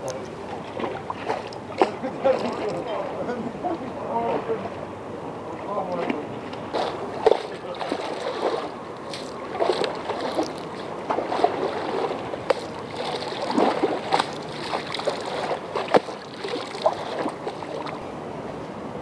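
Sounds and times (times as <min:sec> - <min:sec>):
water splashes and slaps: 0:00.0 - 0:03.1, 0:05.6 - 0:18.1
waves lapping against concrete wall: 0:00.0 - 0:19.0.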